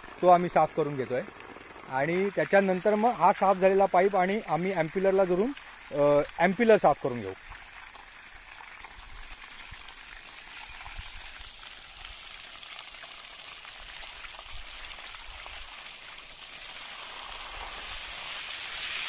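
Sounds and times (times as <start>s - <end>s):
water gushing from pipe: 0.0s - 19.0s
water splashing on ground: 0.0s - 19.0s.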